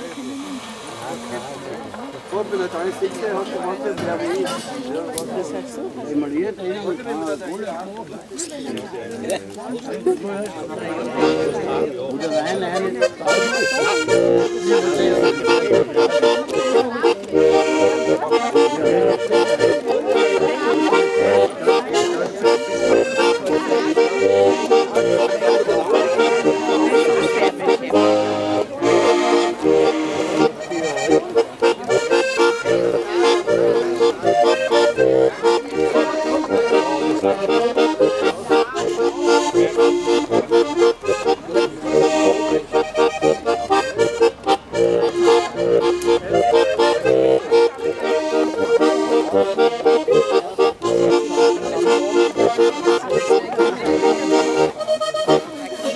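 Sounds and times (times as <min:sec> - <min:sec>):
button accordion playing tune: 0:10.0 - 0:55.9.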